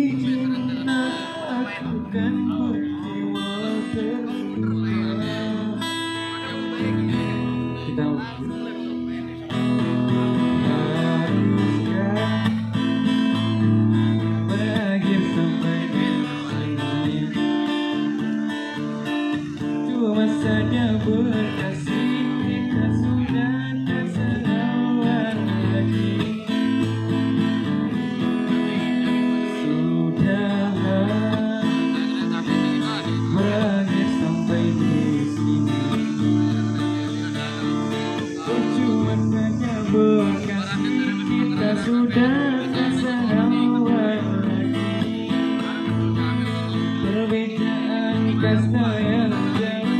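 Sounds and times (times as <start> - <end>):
acoustic guitars strumming: 0.0 - 49.9
guitar melody line: 0.0 - 49.9.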